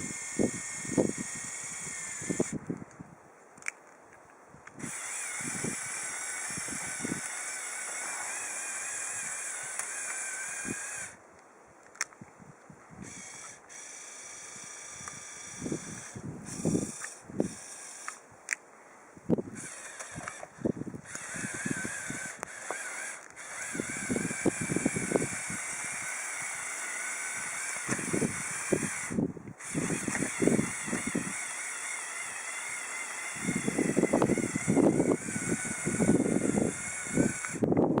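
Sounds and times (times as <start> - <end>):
toy electric motors whining: 0.0 - 2.7, 4.7 - 11.2, 13.0 - 18.3, 19.4 - 38.0.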